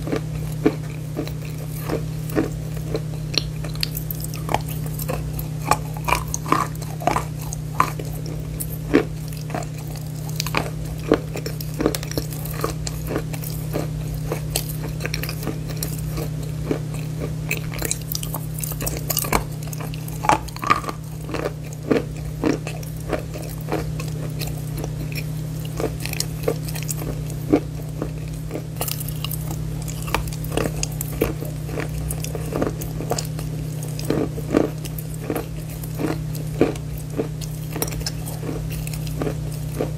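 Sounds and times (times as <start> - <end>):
soft chewing: 0.0 - 39.9.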